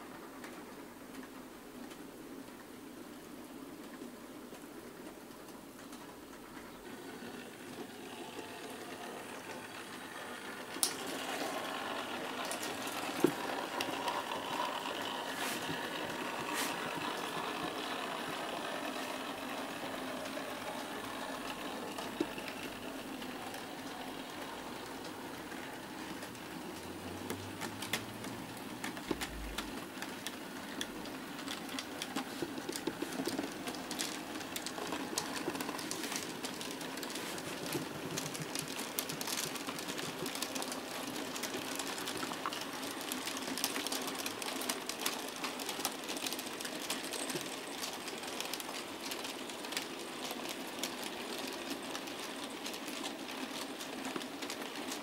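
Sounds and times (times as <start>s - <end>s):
wheels rattling over rails: 6.3s - 55.0s
model train motors whirring: 6.6s - 55.0s.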